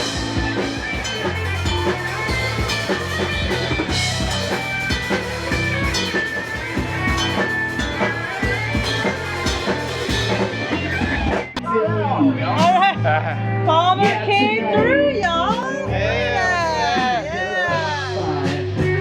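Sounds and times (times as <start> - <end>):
drum kit beat: 0.0 - 11.6, 12.6 - 13.0, 13.7 - 19.0
bass guitar: 0.0 - 19.0
electric guitar: 0.0 - 19.0.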